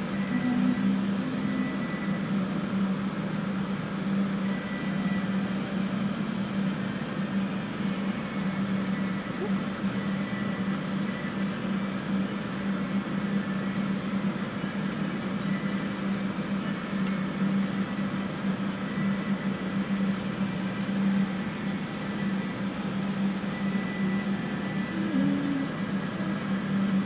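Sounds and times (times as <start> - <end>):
electric fans whirring: 0.0 - 27.0.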